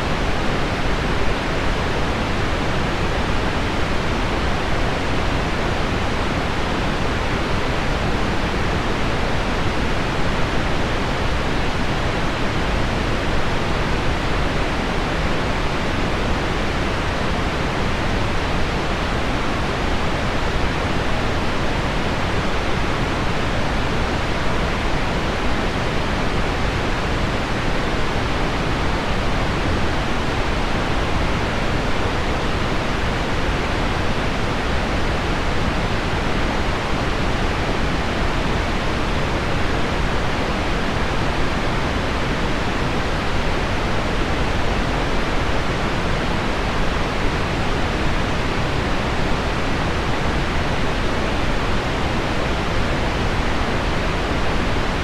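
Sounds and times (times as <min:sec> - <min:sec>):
pink noise: 0:00.0 - 0:55.0.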